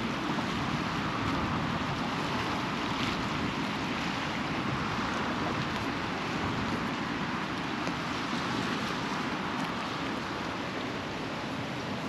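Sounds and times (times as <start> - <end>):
wind buffeting microphone: 0.0 - 10.3
sea surf: 0.0 - 12.0.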